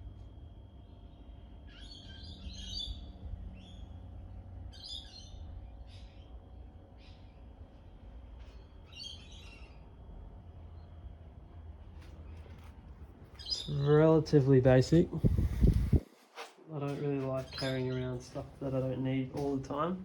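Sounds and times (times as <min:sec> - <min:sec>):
low background rumble: 0:00.0 - 0:16.1
birds chirping: 0:00.8 - 0:11.2, 0:13.2 - 0:16.0, 0:16.8 - 0:20.0.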